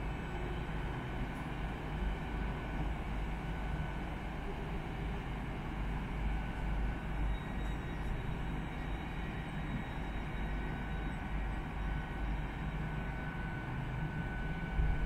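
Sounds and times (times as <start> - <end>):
diesel train engine rumble: 0.0 - 15.0
faint high whine: 0.0 - 15.0.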